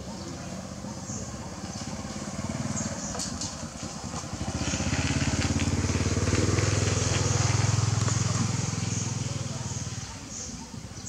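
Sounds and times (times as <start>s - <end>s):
vehicle engine running: 0.0s - 10.8s.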